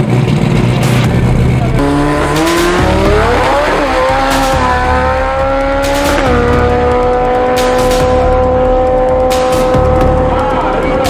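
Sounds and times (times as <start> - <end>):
drag racing car accelerating: 0.0 - 11.0.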